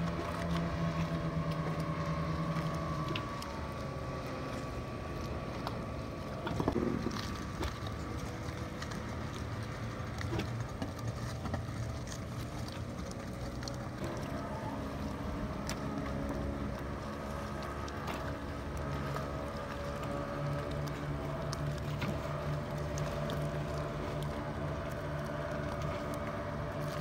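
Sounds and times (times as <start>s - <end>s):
speedboat engine running: 0.0s - 27.0s.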